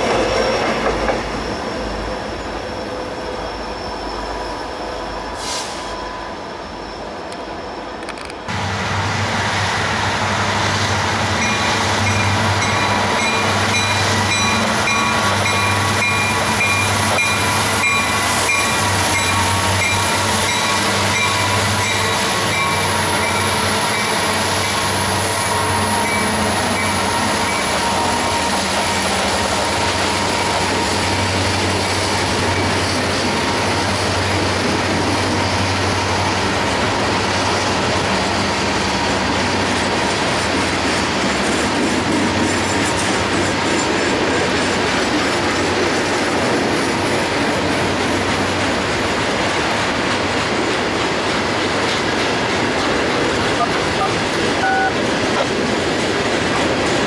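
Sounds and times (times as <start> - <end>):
diesel locomotive engine drone: 0.0 - 57.0
train cars rolling on rails: 0.0 - 57.0.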